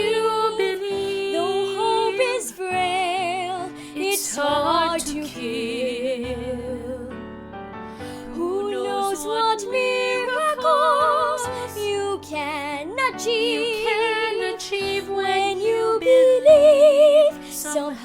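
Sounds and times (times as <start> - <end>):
women singing a ballad duet: 0.0 - 7.2, 8.0 - 18.0
piano accompaniment: 0.0 - 18.0.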